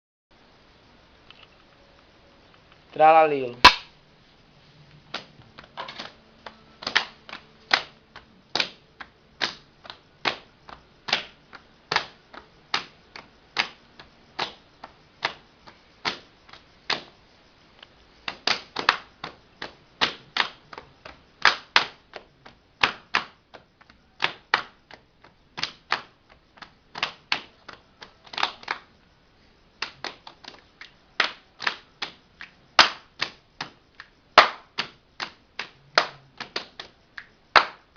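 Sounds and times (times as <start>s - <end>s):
body percussion clicking hits: 3.1s - 3.9s, 5.1s - 29.0s, 29.8s - 37.9s.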